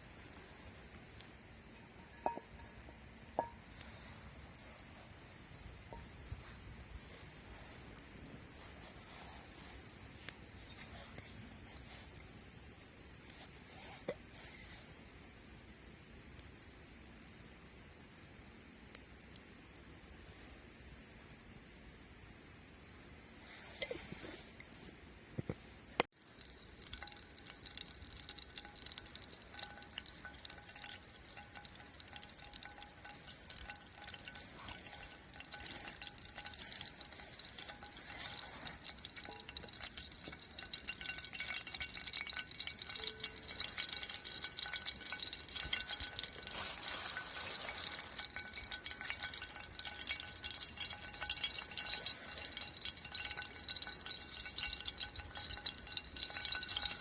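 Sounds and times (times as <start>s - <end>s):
fish sizzling in a pan: 0.0s - 24.8s, 25.8s - 57.0s.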